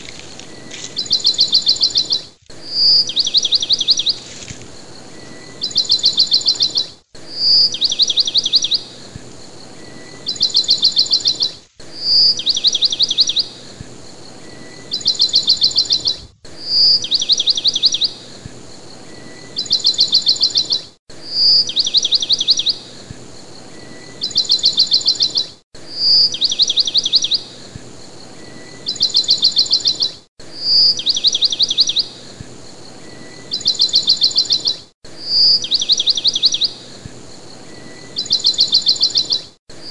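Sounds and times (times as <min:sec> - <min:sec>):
bird chirp and rapid trill: 0:00.6 - 0:04.2, 0:04.8 - 0:39.9.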